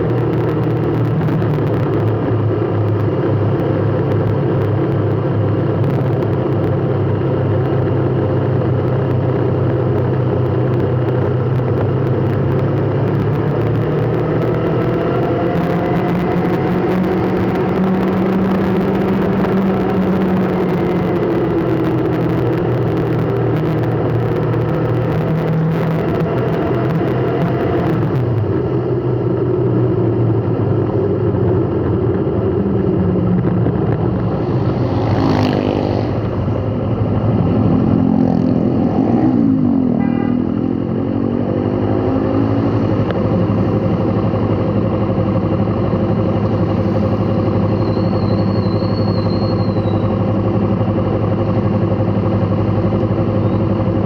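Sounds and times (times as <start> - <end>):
engines revving: 0.0 - 54.0
vehicle engines in slow traffic: 0.0 - 54.0.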